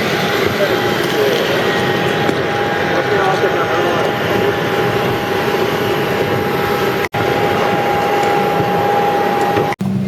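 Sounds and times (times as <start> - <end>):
airliner cabin engine rush: 0.0 - 10.0
constant engine whine: 0.0 - 10.0.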